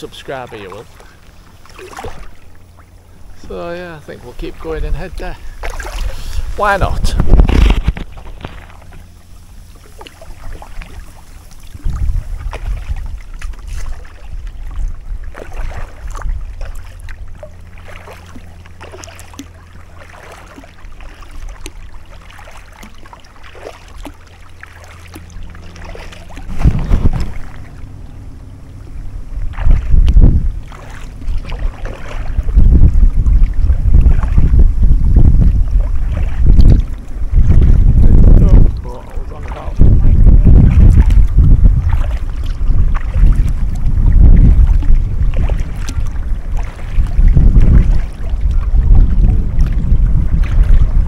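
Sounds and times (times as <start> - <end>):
paddle splashing in water: 0.2 - 51.0
wind rumbling on microphone: 0.8 - 51.0.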